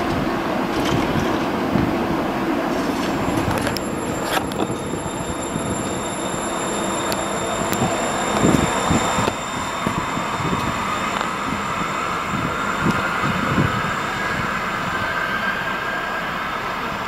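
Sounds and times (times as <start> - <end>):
train traction motors whining: 0.0 - 17.0
wheels rumbling on rail: 0.0 - 17.0.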